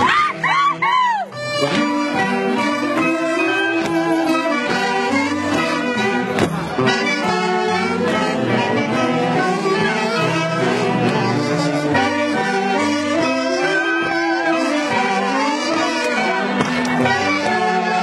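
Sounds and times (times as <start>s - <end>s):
live band with wind instruments: 0.0s - 18.0s.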